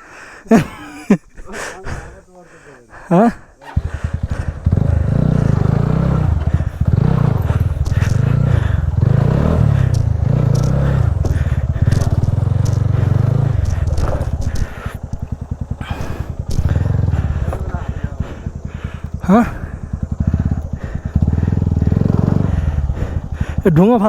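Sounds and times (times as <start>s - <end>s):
motorcycle engine running: 3.2s - 24.0s
tyres crunching on loose stones: 4.4s - 24.0s.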